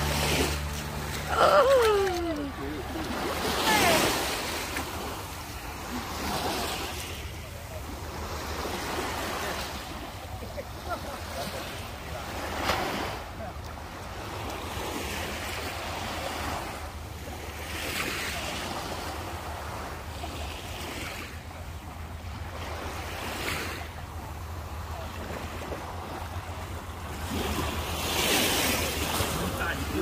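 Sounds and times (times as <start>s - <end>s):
small waves washing at shore: 0.0s - 30.0s.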